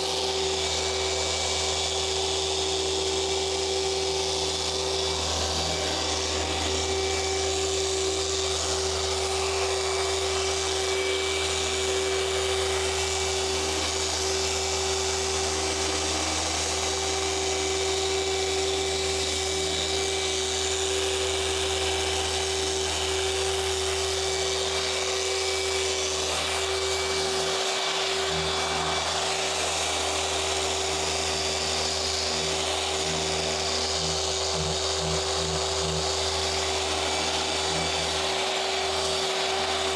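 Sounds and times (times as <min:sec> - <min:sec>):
electric polisher motor whine: 0:00.0 - 0:39.9.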